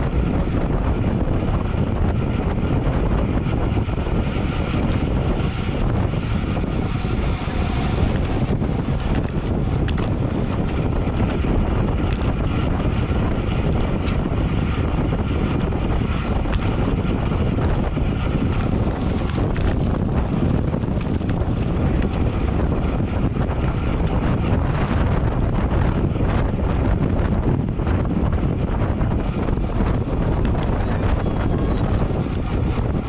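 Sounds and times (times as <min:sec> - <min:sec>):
wind rushing on microphone: 0:00.0 - 0:33.0.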